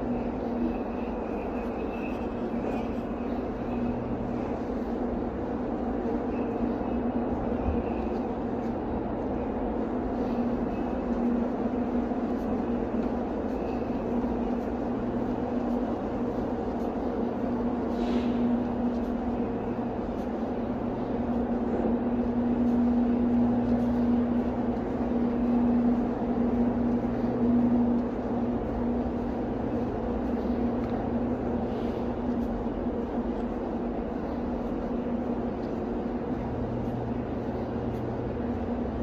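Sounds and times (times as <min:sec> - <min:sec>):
constant low hum: 0:00.0 - 0:39.0.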